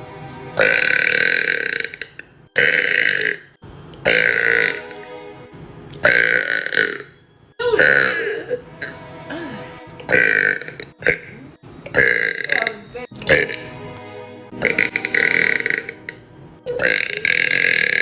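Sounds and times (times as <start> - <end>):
person burping loudly: 0.6 - 5.0, 6.0 - 13.8, 14.6 - 18.0.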